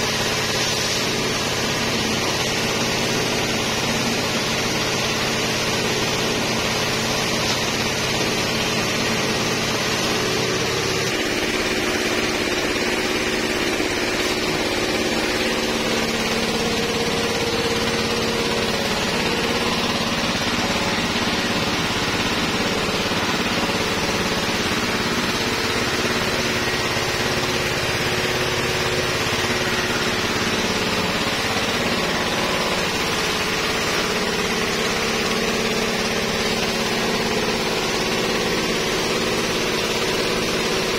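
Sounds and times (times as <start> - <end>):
pressure sprayer running: 0.0 - 40.9.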